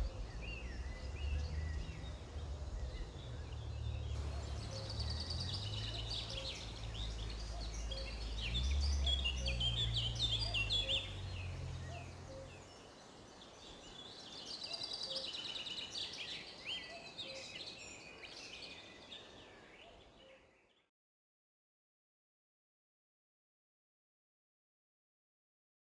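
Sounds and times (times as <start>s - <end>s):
songbirds chirping and singing: 0.0s - 20.9s.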